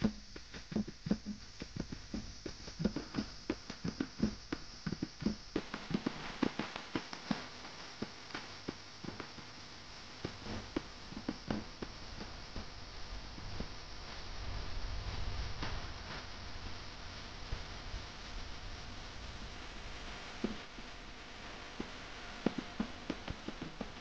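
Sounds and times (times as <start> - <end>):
tyre and wind hiss: 0.0 - 24.0.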